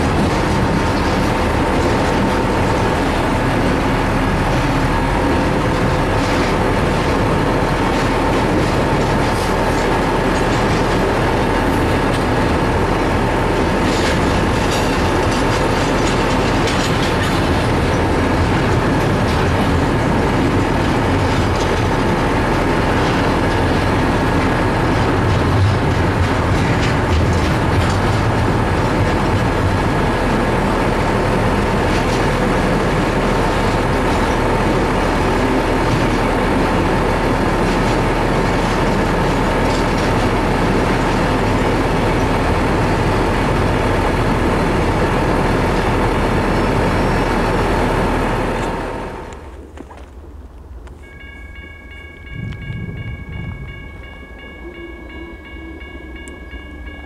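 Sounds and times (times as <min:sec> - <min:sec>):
freight train rolling past: 0:00.0 - 0:57.0
rail car clanks: 0:00.0 - 0:57.0.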